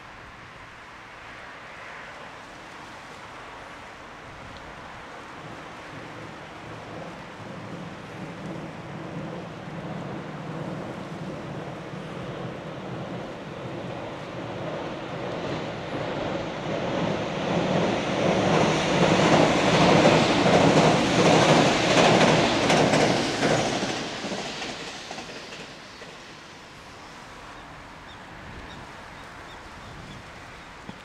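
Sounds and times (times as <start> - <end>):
electric train crossing steel bridge: 0.0 - 31.0.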